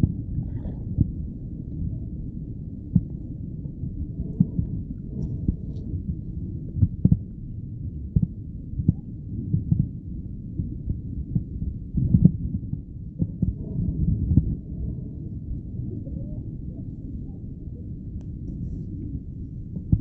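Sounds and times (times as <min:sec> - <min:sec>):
churning water underwater: 0:00.0 - 0:20.0
soft low underwater thumps: 0:00.0 - 0:20.0.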